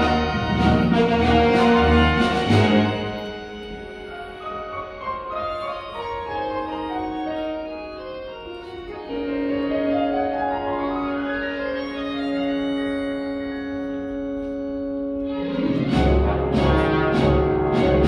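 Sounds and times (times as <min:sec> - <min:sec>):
orchestral ballet music: 0:00.0 - 0:18.0.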